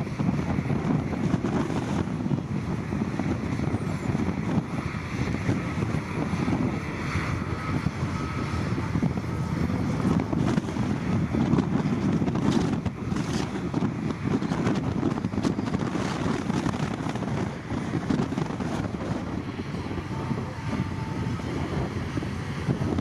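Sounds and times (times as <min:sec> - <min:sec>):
heavy machinery diesel engine: 0:00.0 - 0:23.0
wind buffeting microphone: 0:00.0 - 0:23.0.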